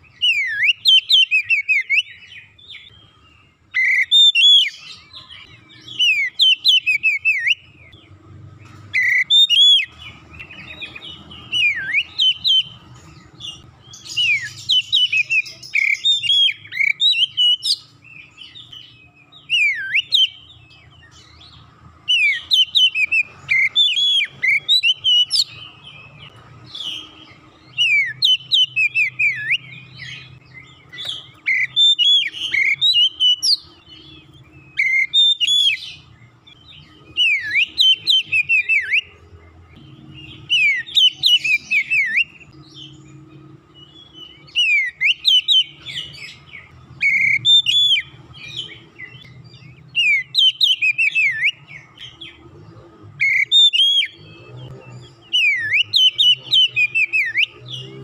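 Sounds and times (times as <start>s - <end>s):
bird singing whistled phrases: 0.0s - 3.0s, 3.7s - 8.0s, 8.9s - 39.2s, 39.8s - 52.1s, 53.2s - 58.0s.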